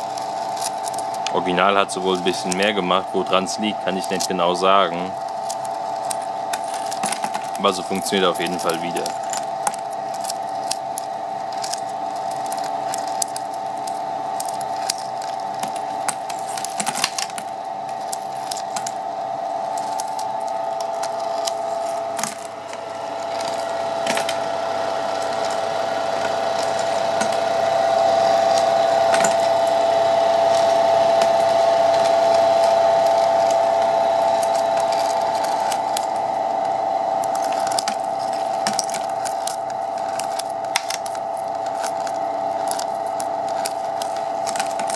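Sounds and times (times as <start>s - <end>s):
ice machine humming: 0.0s - 44.9s.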